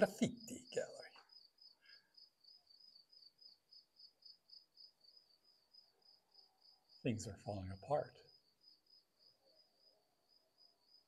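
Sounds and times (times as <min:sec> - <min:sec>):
faint cricket chirping: 0:00.0 - 0:11.0.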